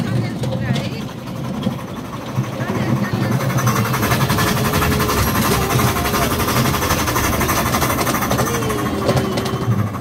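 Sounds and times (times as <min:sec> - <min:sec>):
miniature train rattling: 0:00.0 - 0:10.0.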